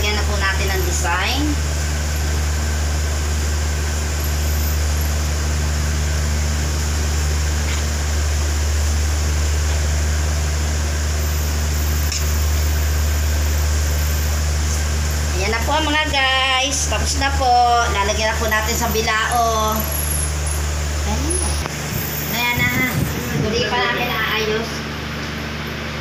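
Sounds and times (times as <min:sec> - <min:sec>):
gas burner rumble and hiss: 0:00.0 - 0:26.0.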